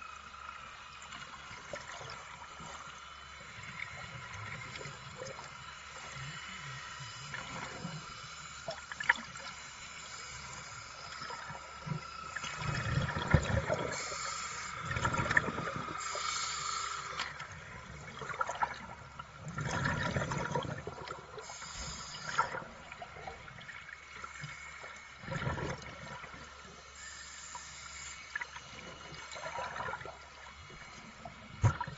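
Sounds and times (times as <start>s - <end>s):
faint steady brush whine: 0.0s - 31.9s.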